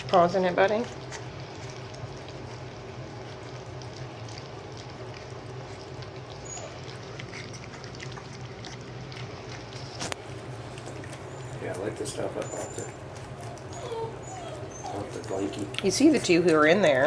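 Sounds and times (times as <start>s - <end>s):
puppies lapping wet food: 0.0s - 17.0s
steady low hum: 0.0s - 17.0s.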